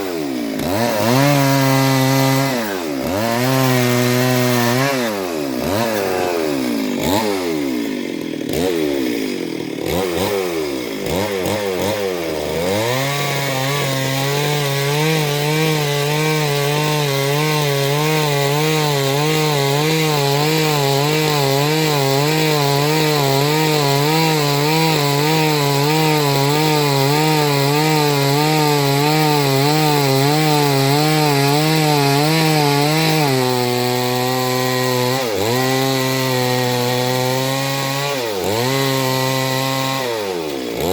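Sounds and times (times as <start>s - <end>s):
chainsaw cutting tree trunk: 0.0s - 40.9s.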